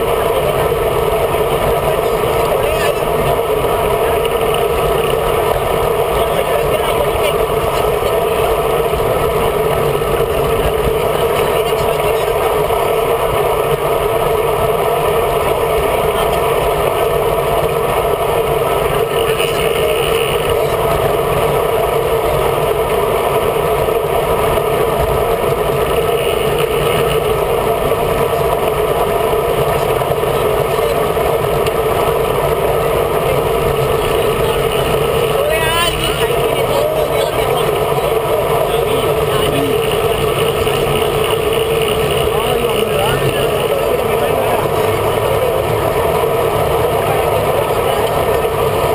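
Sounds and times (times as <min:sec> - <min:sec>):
tyre noise on road: 0:00.0 - 0:48.9
wind rush on microphone: 0:00.0 - 0:48.9.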